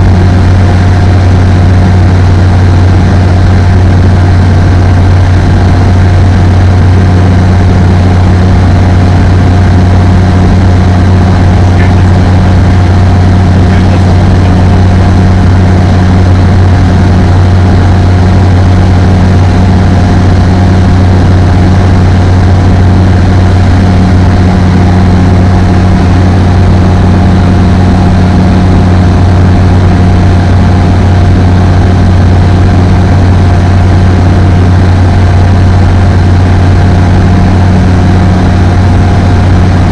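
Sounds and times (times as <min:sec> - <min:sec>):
aircraft engine and propeller droning: 0:00.0 - 0:39.9.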